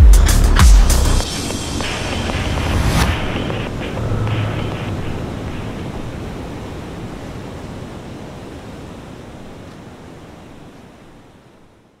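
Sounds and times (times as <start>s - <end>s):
steady sea-like rushing noise: 1.0s - 12.0s.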